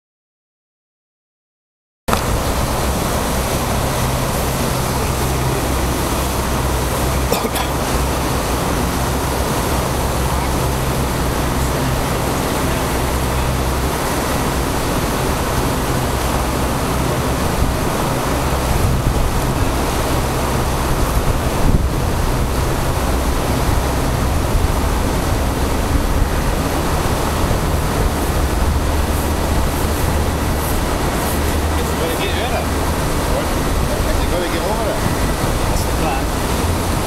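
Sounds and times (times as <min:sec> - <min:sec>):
white water rushing over a weir: 0:02.1 - 0:37.0
wind rumbling on microphone: 0:02.1 - 0:37.0.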